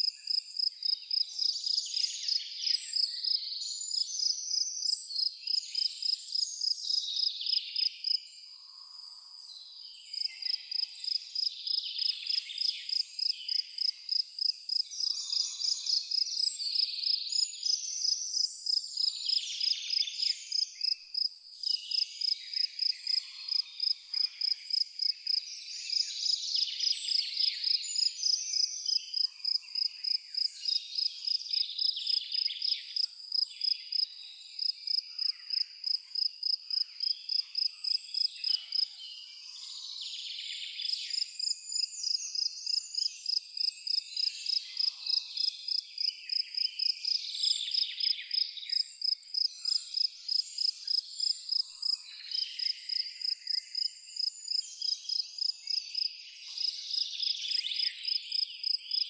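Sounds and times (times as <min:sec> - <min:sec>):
cricket chirping: 0:00.0 - 0:09.5, 0:10.1 - 0:59.0.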